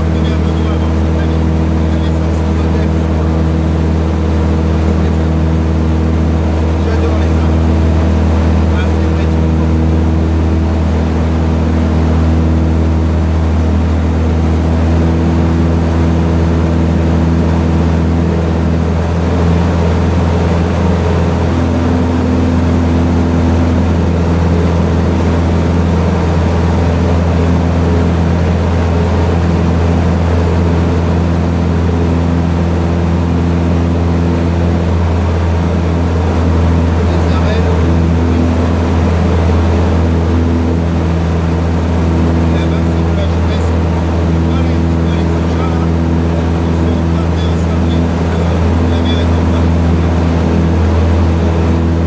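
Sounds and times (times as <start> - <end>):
aircraft engine and propeller droning: 0.0 - 52.0.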